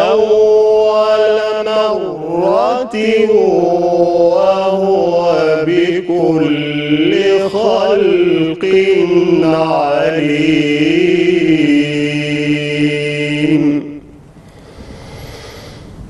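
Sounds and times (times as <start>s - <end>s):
man chanting melodically: 0.0s - 14.1s.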